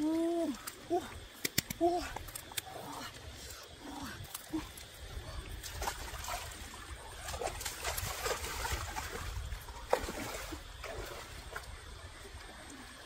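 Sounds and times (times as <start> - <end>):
stream water splashing: 2.4 - 13.0.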